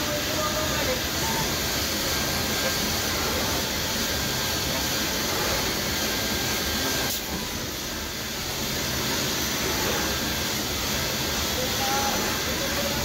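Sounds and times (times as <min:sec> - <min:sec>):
boring machine whirring: 0:00.0 - 0:13.0.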